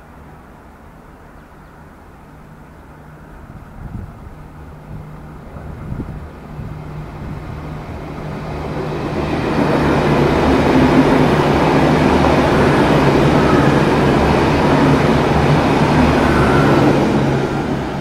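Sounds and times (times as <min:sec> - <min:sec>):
electric train approaching: 0:00.0 - 0:18.0.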